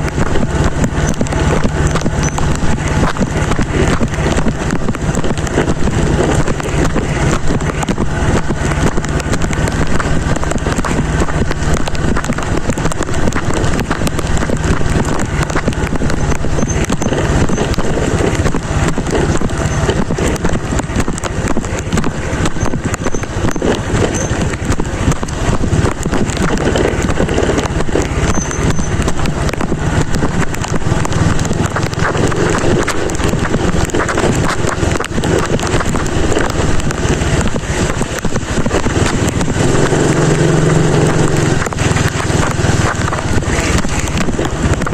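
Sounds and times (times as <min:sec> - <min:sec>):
motorcycle engine humming: 0:00.0 - 0:44.9
wind and road noise: 0:00.0 - 0:44.9.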